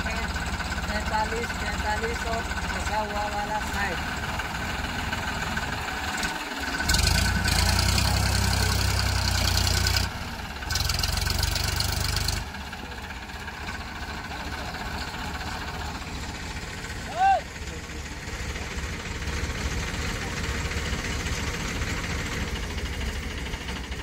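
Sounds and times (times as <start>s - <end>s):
diesel tractor engines straining: 0.0s - 24.0s.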